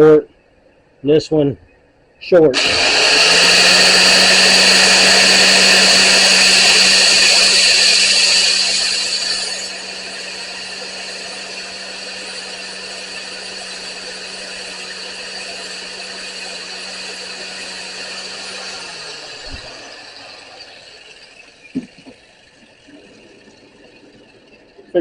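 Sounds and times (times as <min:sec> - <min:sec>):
electric grinder humming: 0:02.5 - 0:24.8.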